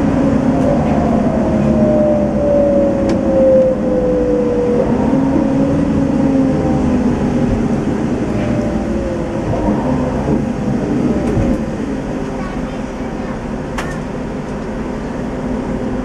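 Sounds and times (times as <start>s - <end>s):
coach engine running: 0.0s - 16.0s
drivetrain whine: 0.0s - 16.0s.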